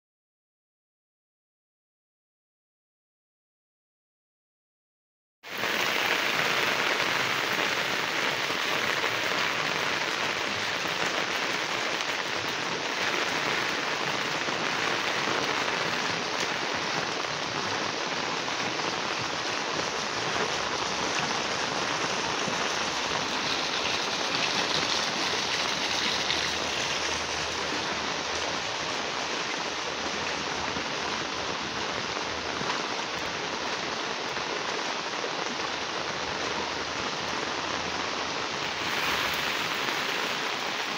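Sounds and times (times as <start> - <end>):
heavy rain on standing water: 5.4 - 40.9.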